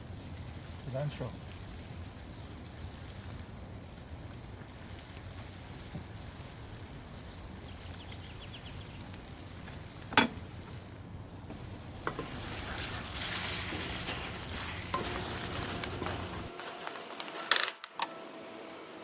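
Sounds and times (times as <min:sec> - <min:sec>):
food sizzling in a pan: 0:00.0 - 0:17.5.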